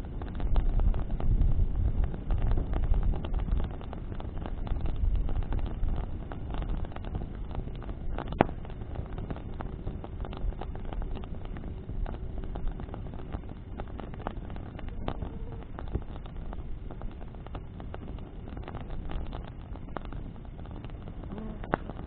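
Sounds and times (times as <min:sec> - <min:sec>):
fire crackling and popping: 0:00.0 - 0:22.0
wind and flame rushing: 0:00.0 - 0:22.0.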